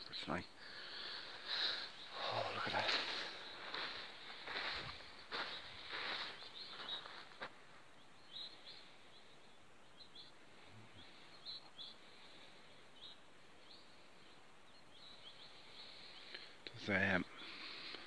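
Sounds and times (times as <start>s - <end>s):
faint high bird chirps: 1.4s - 18.0s.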